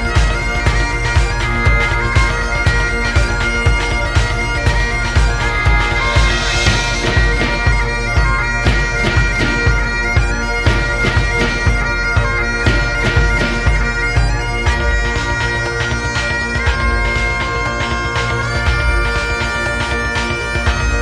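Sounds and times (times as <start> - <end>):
drum beat: 0.0 - 19.2
bagpipe tune with drones: 0.0 - 21.0.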